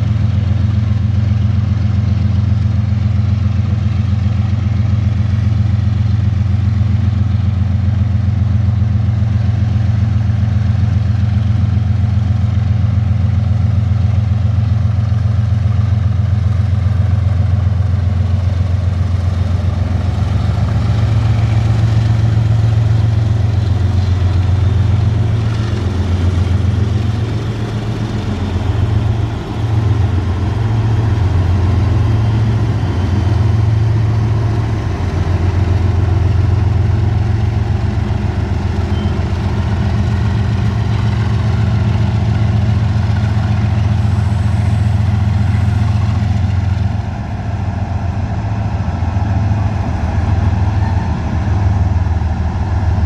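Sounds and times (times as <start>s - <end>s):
diesel locomotive engines droning: 0.0s - 53.0s.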